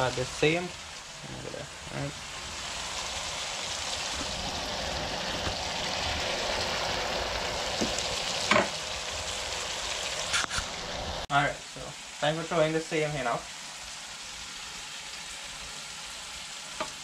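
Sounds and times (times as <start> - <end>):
curry sizzling in a pot: 0.0 - 17.0.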